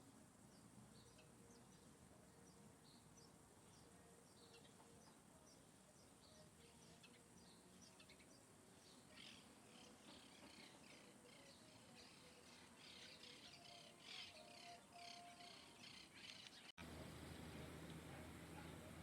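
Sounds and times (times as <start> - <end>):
low background hiss: 0.0 - 19.0
birds chirping: 0.4 - 19.0.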